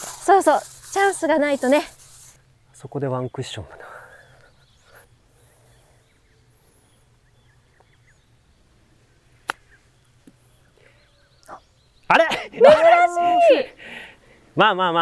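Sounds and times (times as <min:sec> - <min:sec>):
faint bird chirps: 0:00.1 - 0:12.3.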